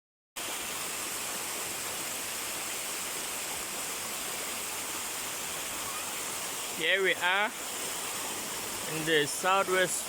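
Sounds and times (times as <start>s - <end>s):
spring water flowing: 0.4s - 10.0s.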